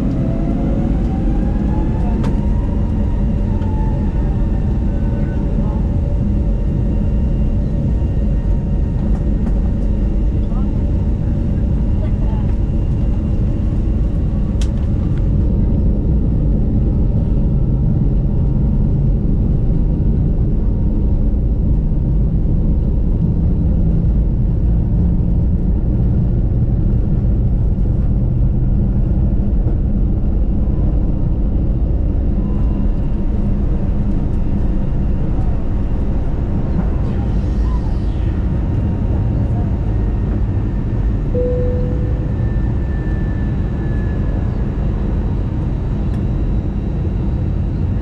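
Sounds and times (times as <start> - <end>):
airliner engines rumbling in cabin: 0.0 - 48.0.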